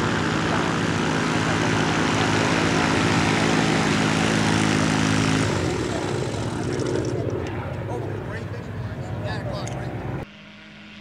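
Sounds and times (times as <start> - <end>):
ultralight engine and propeller: 0.0 - 11.0.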